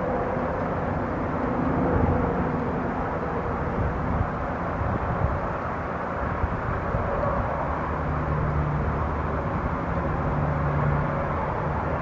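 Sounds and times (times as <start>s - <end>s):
faint hum of distant engines: 0.0s - 12.0s
wind rumbling on microphone: 0.0s - 12.0s.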